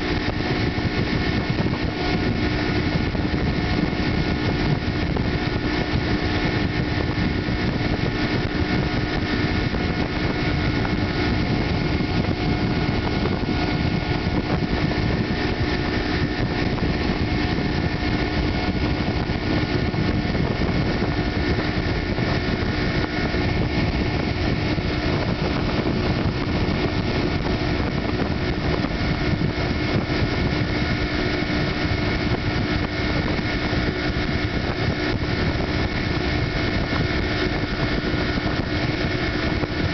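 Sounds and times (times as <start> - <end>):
outboard motor running: 0.0 - 39.9
rushing water: 0.0 - 39.9.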